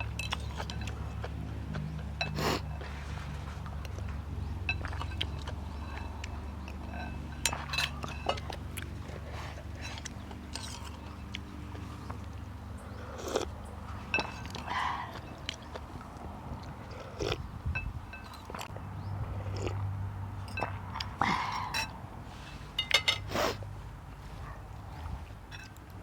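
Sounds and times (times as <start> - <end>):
person chewing food: 0.0 - 23.6.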